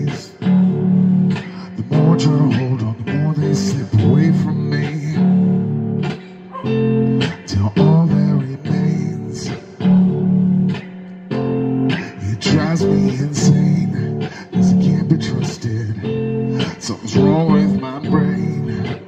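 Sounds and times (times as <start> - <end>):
man singing: 0.0 - 10.2, 11.9 - 19.0
electric guitar chords: 0.0 - 19.0.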